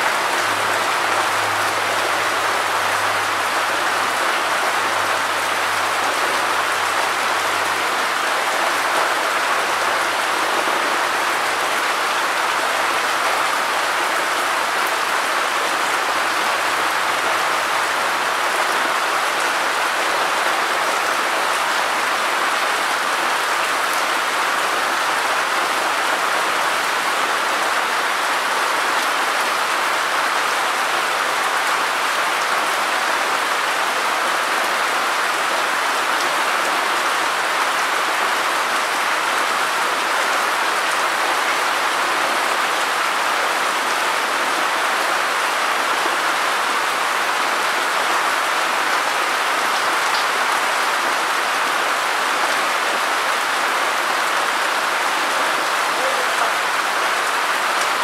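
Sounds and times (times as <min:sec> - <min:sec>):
rain on wet concrete: 0:00.0 - 0:58.0.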